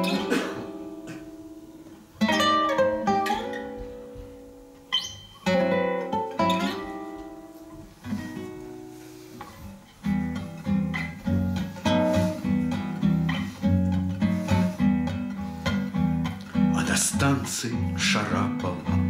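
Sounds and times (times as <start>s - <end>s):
classical guitar chords: 0.0s - 19.0s.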